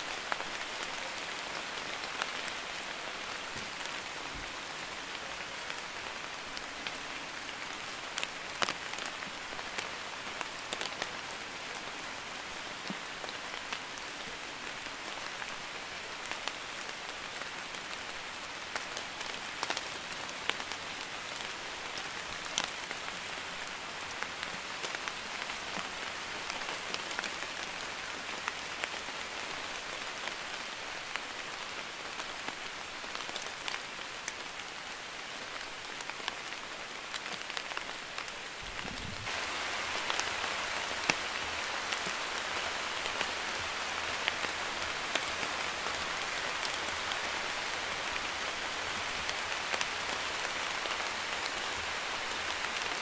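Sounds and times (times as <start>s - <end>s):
light rain pattering: 0.0s - 53.0s.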